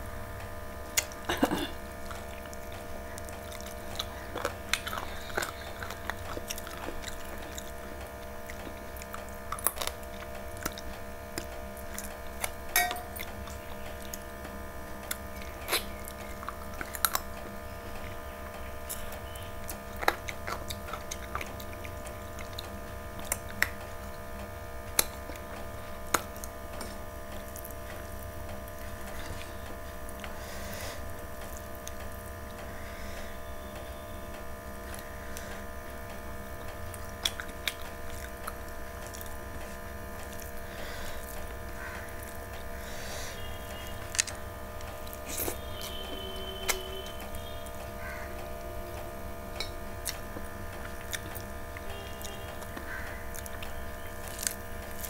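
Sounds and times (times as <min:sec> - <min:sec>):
steady electrical hum: 0:00.0 - 0:55.0
person chewing food: 0:00.8 - 0:55.0.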